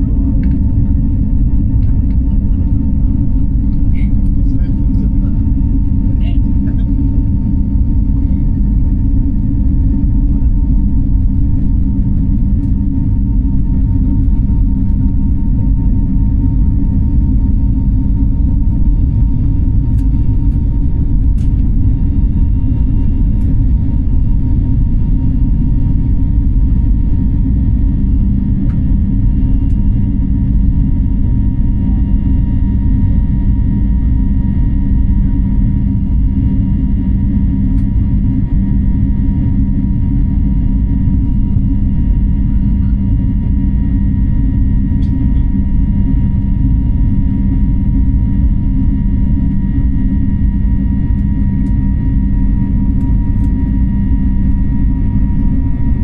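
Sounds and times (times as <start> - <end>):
airliner engine and airflow rumble: 0.0 - 56.0
constant hum: 0.0 - 56.0.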